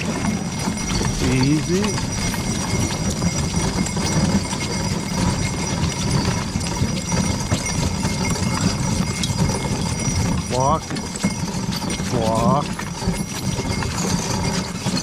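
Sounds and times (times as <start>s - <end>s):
hooves on packed snow: 0.0s - 15.0s.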